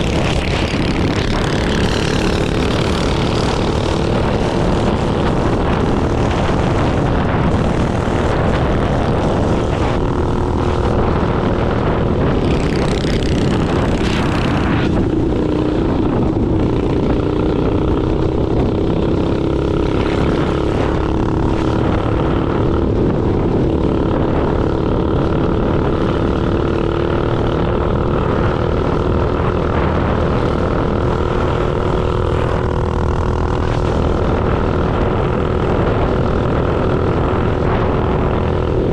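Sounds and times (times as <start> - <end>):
minibike engine running: 0.0 - 38.9
wind on microphone: 0.0 - 38.9.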